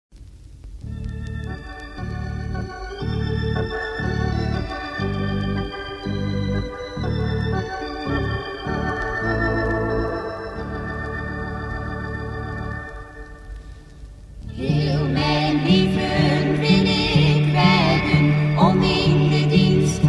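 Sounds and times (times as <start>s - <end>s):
electronic organ chords: 0.8s - 13.6s, 14.5s - 20.0s.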